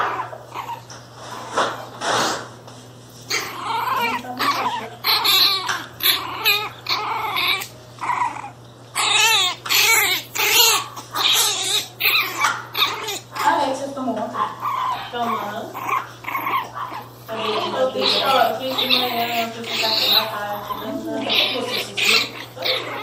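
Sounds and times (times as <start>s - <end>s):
puppy yelping and whining: 0.0s - 2.0s, 3.2s - 13.6s, 14.6s - 23.0s.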